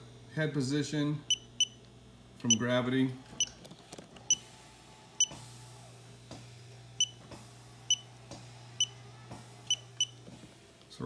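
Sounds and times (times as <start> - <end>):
massage chair motor hum: 1.3 - 11.0.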